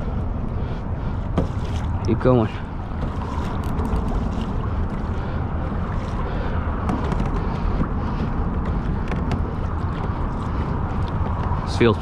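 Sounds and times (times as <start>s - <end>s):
water lapping at kayak: 0.0s - 12.0s
wind on microphone: 0.0s - 12.0s.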